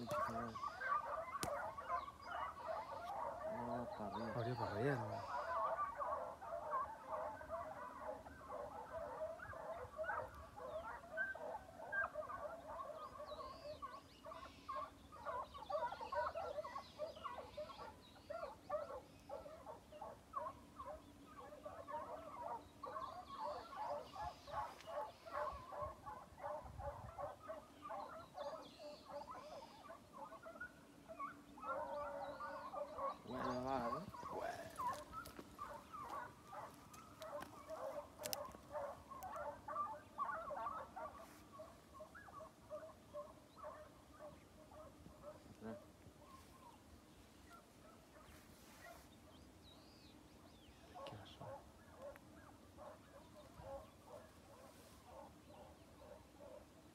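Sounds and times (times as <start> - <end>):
nearer hound call: 0.0 - 45.9
pack of hounds baying: 0.0 - 49.4, 50.0 - 56.9.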